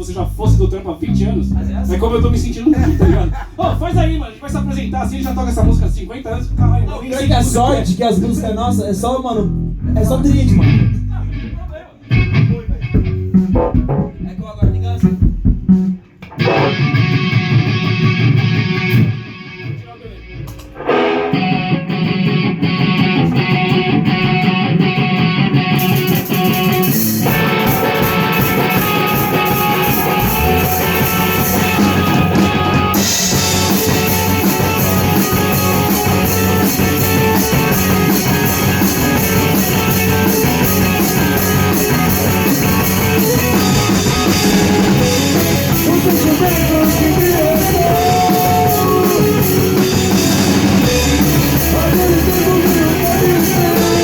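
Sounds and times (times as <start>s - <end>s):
rock band playing: 0.0s - 54.0s
electric guitar: 6.4s - 54.0s.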